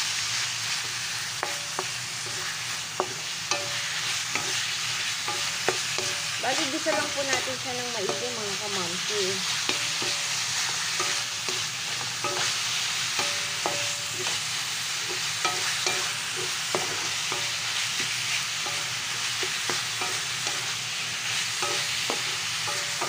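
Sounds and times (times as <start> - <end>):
food sizzling in hot oil: 0.0 - 23.0
spatula scraping and tapping pan: 0.8 - 23.0.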